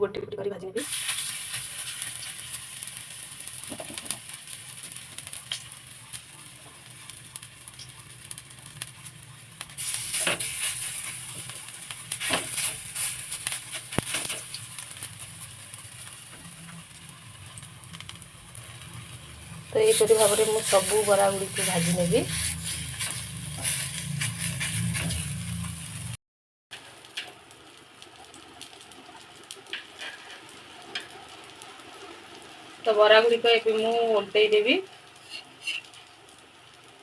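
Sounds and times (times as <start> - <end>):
fritters sizzling in hot oil: 0.8 - 37.0.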